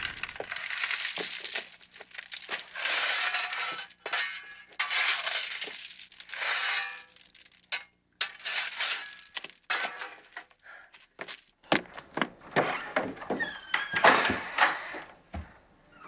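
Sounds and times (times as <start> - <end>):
gravel crunching and clinking: 0.0 - 13.6.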